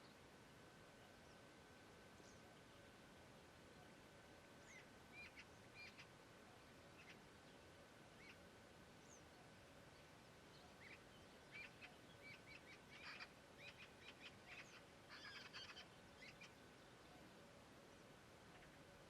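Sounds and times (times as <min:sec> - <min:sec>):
birds chirping faintly: 0:00.0 - 0:19.0
meadow ambience hiss: 0:00.0 - 0:19.0.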